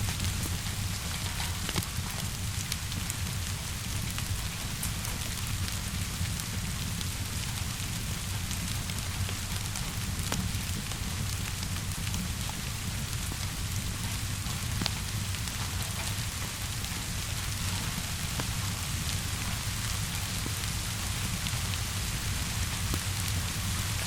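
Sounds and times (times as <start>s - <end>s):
steady rainfall: 0.0s - 24.0s
wood fire crackling: 0.0s - 24.0s.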